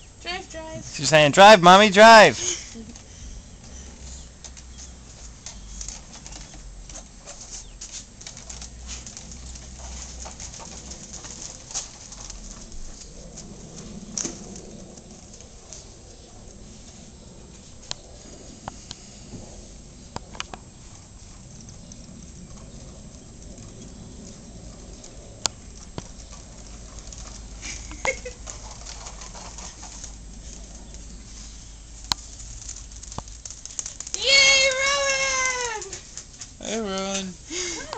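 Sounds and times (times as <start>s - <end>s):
tricycle rattling on asphalt: 0.0s - 37.9s.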